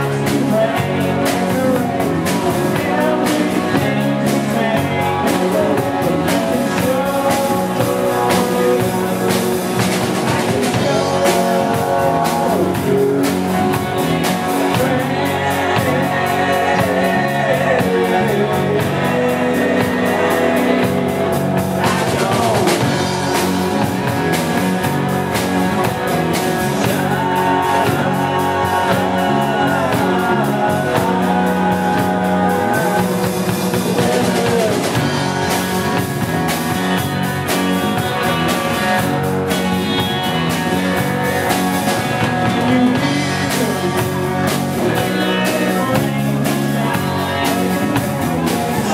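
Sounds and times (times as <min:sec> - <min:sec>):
man singing: 0:00.0 - 0:24.0, 0:25.8 - 0:35.7, 0:37.8 - 0:48.9
rock band playing: 0:00.0 - 0:48.9.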